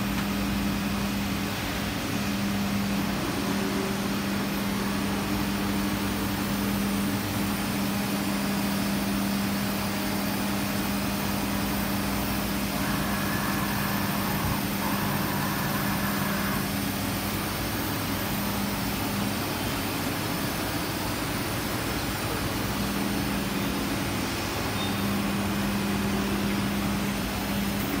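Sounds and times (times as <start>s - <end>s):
shop machinery humming: 0.0s - 28.0s.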